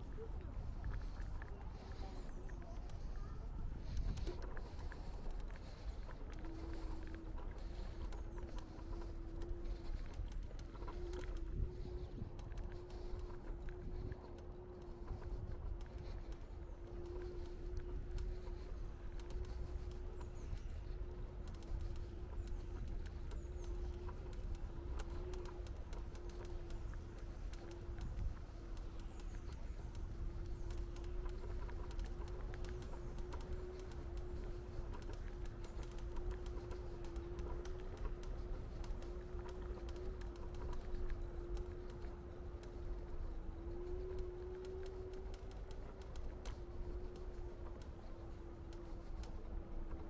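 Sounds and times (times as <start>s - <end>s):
light clicks and taps: 0.0s - 50.0s
mid-pitched hum: 0.0s - 50.0s.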